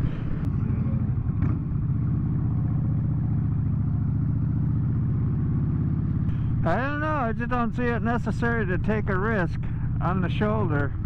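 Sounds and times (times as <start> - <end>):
highway traffic: 0.0 - 11.0
motorcycle engine running: 0.0 - 11.0.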